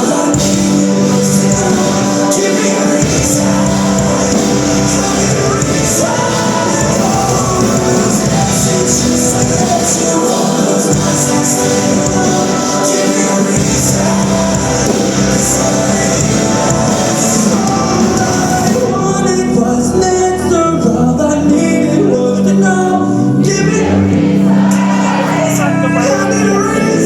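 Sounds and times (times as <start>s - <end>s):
male singing: 0.0s - 27.0s
rock band playing: 0.0s - 27.0s.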